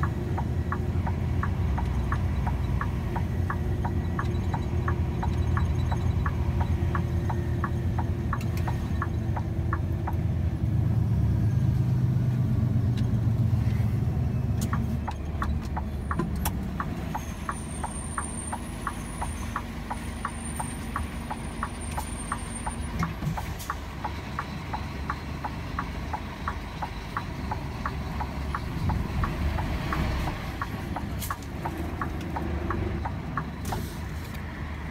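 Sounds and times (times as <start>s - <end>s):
indicator relay ticking: 0.0s - 10.3s, 14.6s - 33.7s
vehicle engine idling: 0.0s - 34.9s.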